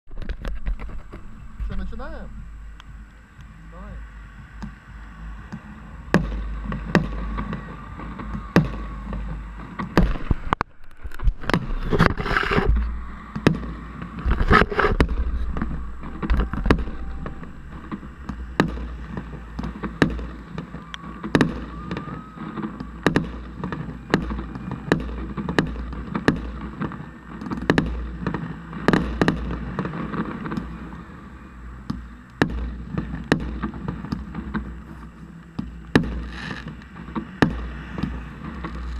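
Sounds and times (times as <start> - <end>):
low rumble: 0.1 - 38.9
fireworks hissing: 0.6 - 10.6, 11.3 - 38.9
firework shells bursting: 5.5 - 38.9.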